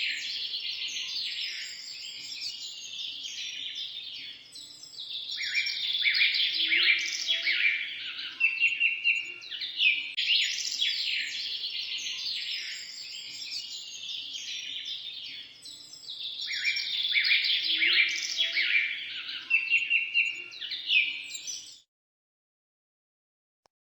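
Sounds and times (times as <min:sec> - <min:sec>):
small birds chirping chorus: 0:00.0 - 0:21.9.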